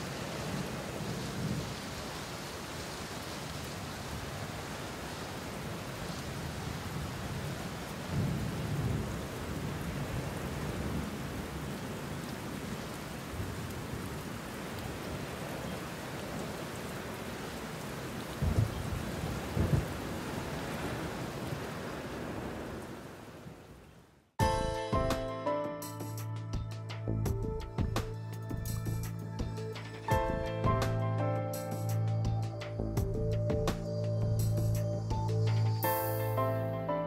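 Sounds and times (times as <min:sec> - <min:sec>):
rain hissing: 0:00.0 - 0:23.8, 0:27.0 - 0:36.5.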